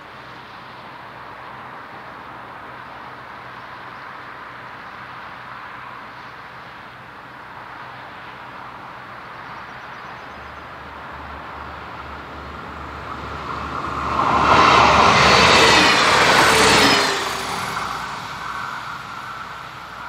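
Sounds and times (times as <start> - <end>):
train passing at speed: 0.4 - 20.0.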